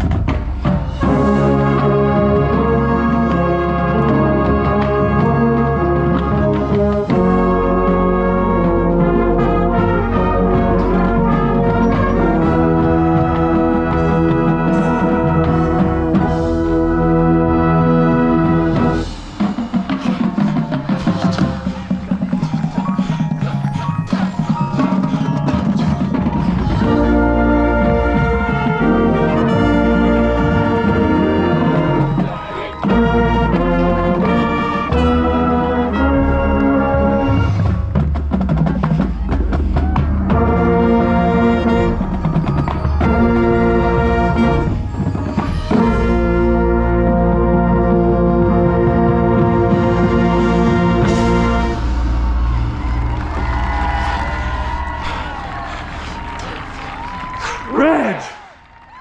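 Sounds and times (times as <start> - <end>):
brass section playing chords: 1.0 - 23.5, 24.7 - 38.0, 40.2 - 42.4, 43.0 - 58.3.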